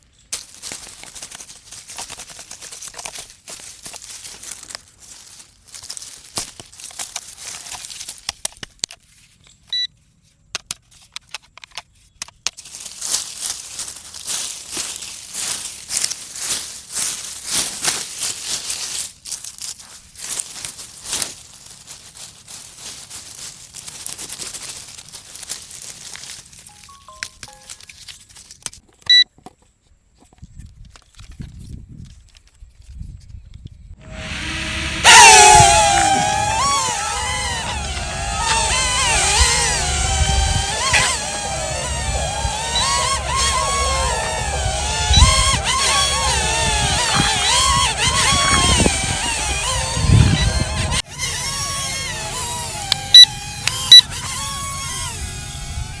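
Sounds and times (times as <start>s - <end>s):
crackling crinkling clicks: 0.2s - 9.9s, 10.5s - 29.4s, 35.8s - 56.0s.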